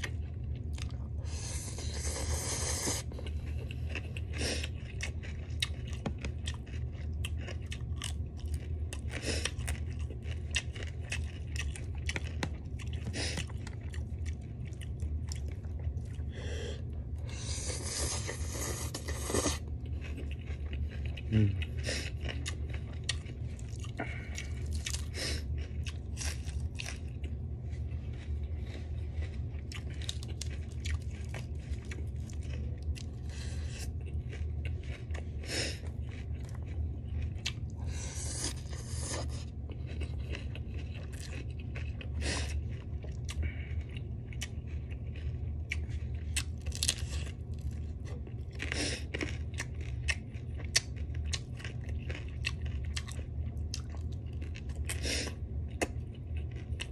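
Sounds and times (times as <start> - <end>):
person chewing food: 0.0 - 56.9
steady low hum: 0.0 - 56.9
food crunches: 2.4 - 16.1, 17.8 - 56.9.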